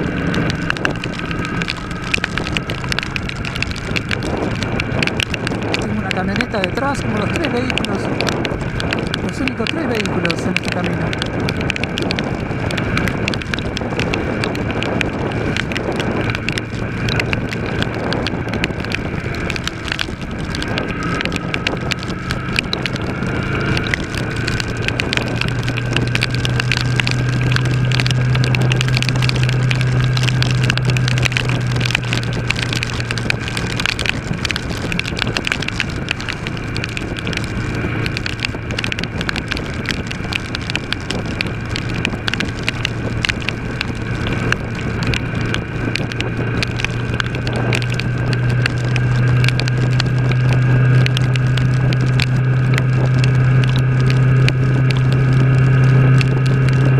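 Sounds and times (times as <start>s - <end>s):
motorcycle engine cruising: 0.0s - 56.9s
tyre spray on flooded road: 0.0s - 56.9s
wind rushing over microphone: 0.0s - 56.9s.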